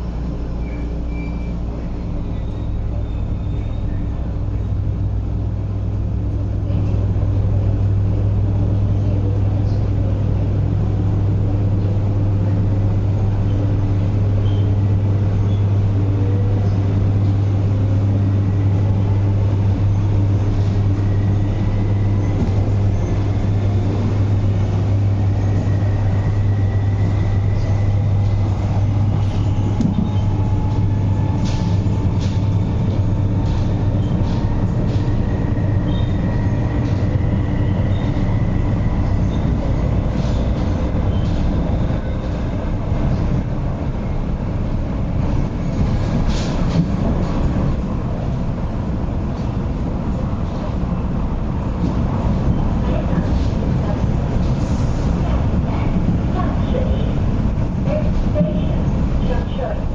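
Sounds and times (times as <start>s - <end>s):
electric train low hum: 0.0s - 59.9s.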